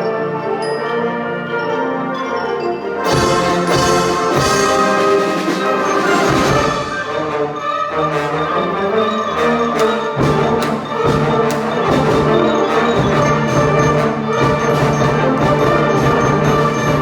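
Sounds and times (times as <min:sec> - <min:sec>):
band percussion: 0:00.0 - 0:17.0
concert wind band playing: 0:00.0 - 0:17.0.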